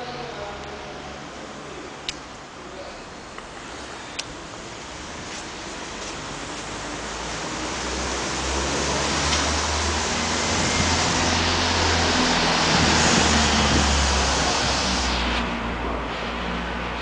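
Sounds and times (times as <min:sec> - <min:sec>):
tyres on the street: 0:00.0 - 0:17.0
vehicle engine: 0:00.0 - 0:17.0.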